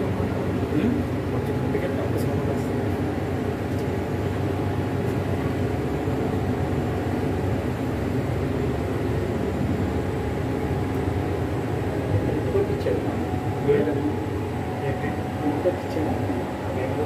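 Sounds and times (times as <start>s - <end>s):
faint steady tones: 0.0s - 17.0s
low mechanical drone in train coach: 0.0s - 17.0s.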